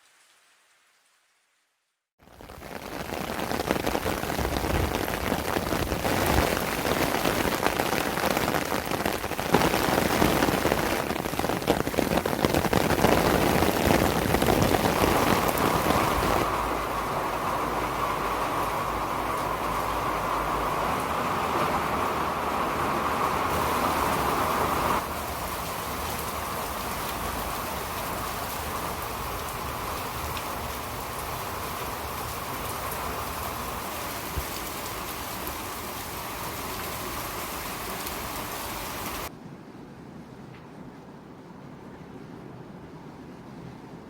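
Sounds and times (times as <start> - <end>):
steady rain falling: 2.2 - 39.3.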